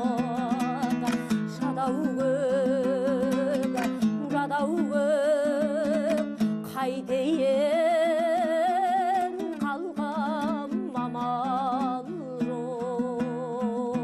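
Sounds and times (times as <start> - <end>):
strummed lute strings: 0.0 - 14.0
woman singing with vibrato: 0.0 - 14.0.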